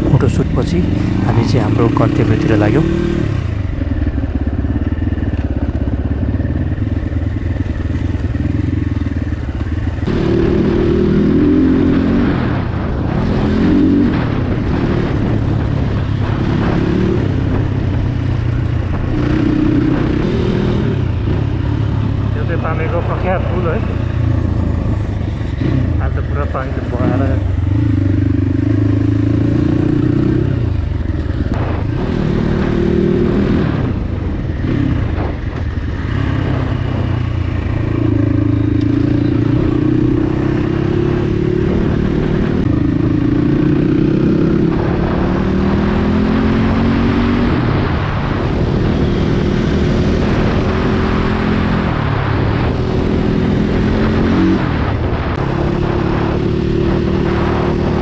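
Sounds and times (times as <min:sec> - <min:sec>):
dirt bike engine accelerating: 0:00.0 - 0:58.0.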